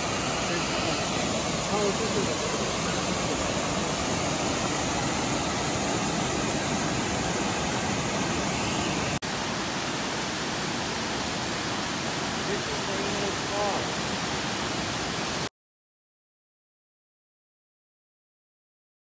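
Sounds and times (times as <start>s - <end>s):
waterfall roaring: 0.0s - 15.5s.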